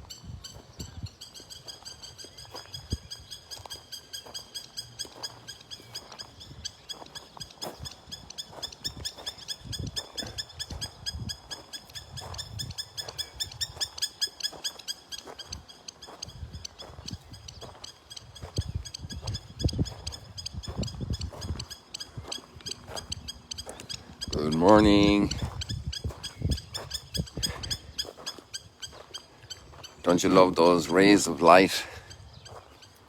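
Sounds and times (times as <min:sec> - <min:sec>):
animal chirping rapidly: 0:00.0 - 0:33.0.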